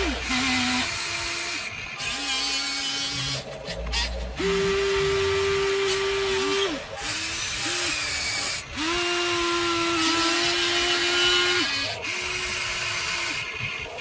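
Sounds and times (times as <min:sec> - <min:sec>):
toy excavator motors whining: 0:00.0 - 0:14.0.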